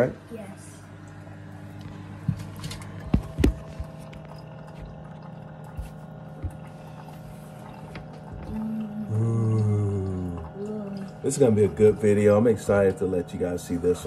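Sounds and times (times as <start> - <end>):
coffee maker pump hum: 0.0 - 14.0
coffee running into a mug: 2.5 - 14.0.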